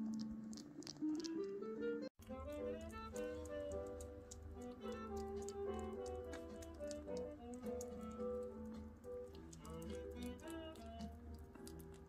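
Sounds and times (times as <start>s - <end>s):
kittens eating wet food: 0.0s - 1.6s, 2.2s - 12.0s
gentle background music: 0.0s - 12.0s.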